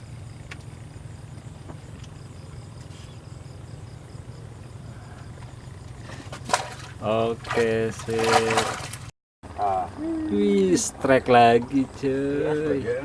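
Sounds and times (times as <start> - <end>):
cricket chirping: 0.0 - 8.9, 9.5 - 13.0
constant low rumble: 0.0 - 13.0.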